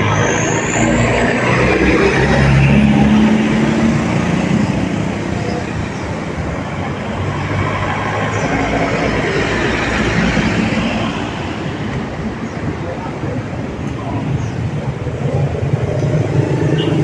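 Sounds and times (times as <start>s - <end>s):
engine hum: 0.0s - 17.0s
vehicles passing: 0.0s - 17.0s.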